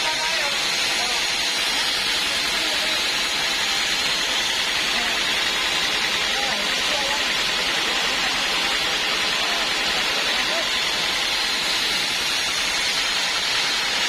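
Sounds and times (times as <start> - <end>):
band saw running: 0.0 - 14.0.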